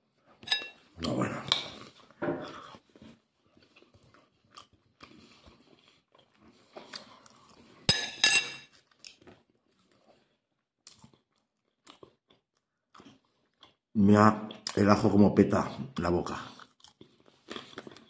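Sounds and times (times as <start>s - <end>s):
man chewing and crunching: 0.1s - 7.9s, 8.7s - 13.9s, 15.8s - 18.0s.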